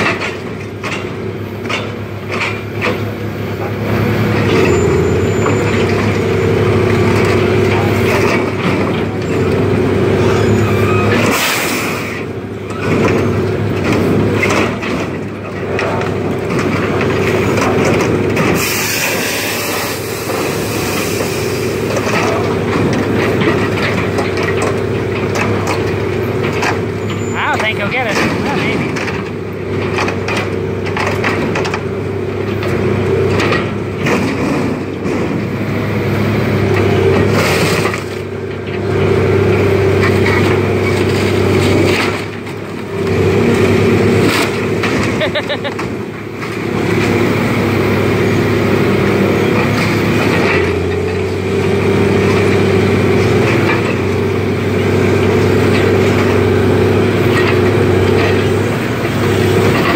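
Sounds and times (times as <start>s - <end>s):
heavy machine engine running: 0.0s - 59.9s
scrap metal clanks and crunches: 0.0s - 59.9s.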